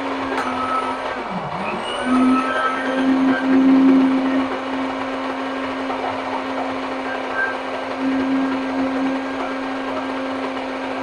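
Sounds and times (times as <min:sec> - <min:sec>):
blender motor grinding: 0:00.0 - 0:11.0.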